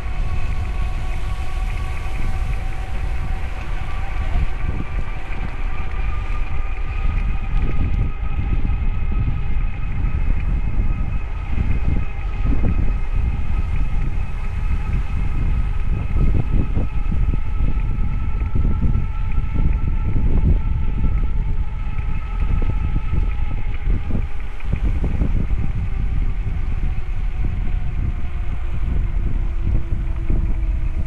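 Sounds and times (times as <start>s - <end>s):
high whine of held tones: 0.0s - 31.0s
wind buffeting microphone: 0.0s - 31.0s.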